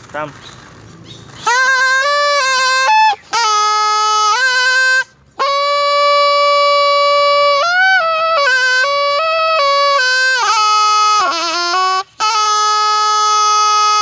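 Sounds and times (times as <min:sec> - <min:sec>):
reed oboe melody: 0:01.3 - 0:14.0.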